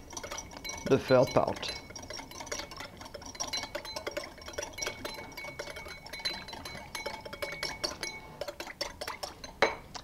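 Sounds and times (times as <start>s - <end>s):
whisk clinking against glass bowl: 0.0s - 9.9s.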